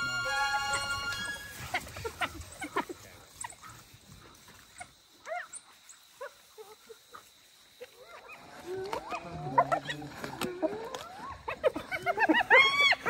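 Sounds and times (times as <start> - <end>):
hyenas and wild dogs calling: 0.0 - 13.0.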